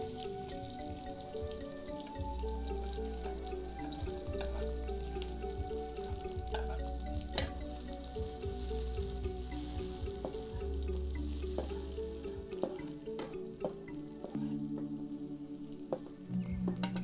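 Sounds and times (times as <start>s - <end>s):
spices sizzling in a wok: 0.0s - 17.0s.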